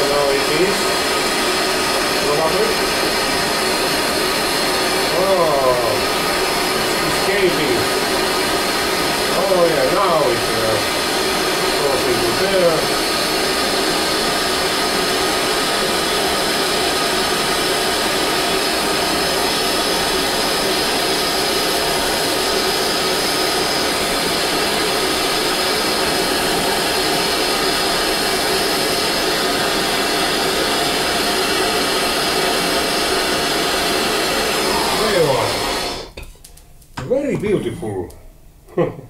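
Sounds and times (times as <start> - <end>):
gas torch hissing: 0.0 - 37.3.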